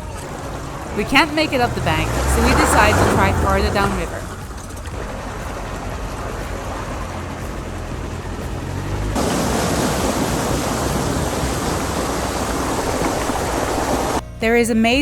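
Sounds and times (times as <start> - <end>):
river rushing: 0.0 - 14.2
low engine hum: 0.0 - 15.0.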